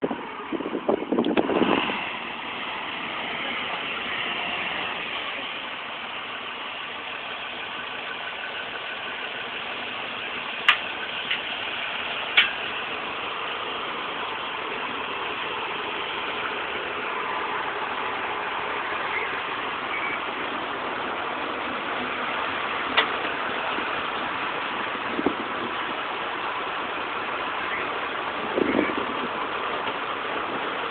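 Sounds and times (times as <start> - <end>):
drill rig engine running: 1.3 - 30.9.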